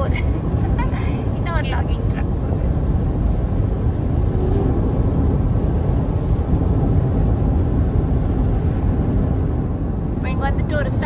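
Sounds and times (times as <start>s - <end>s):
car tyre and engine rumble: 0.0s - 11.0s.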